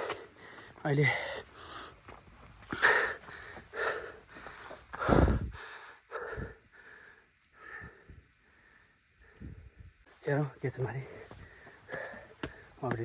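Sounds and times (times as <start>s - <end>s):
person breathing heavily: 0.0s - 9.8s, 11.0s - 12.9s.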